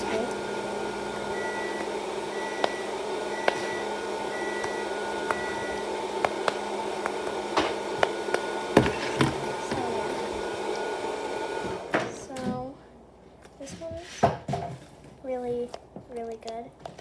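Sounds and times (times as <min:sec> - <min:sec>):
appliance hum: 0:00.0 - 0:17.0.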